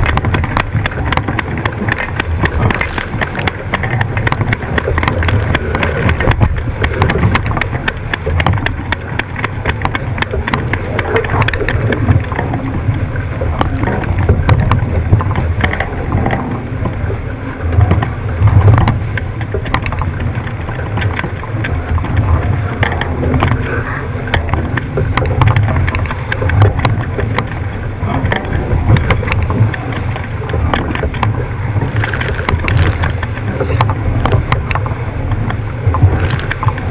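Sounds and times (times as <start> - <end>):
water rushing past hull: 0.0 - 36.9
water splashes: 0.0 - 36.9
wind buffeting microphone: 0.0 - 36.9.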